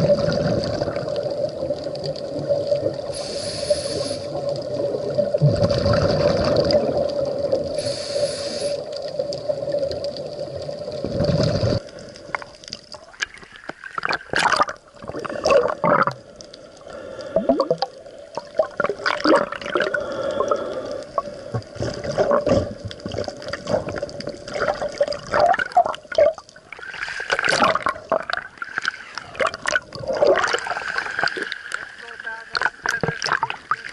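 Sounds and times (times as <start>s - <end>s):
bubbling and gurgling: 0.0s - 33.9s
underwater hum: 0.0s - 33.9s.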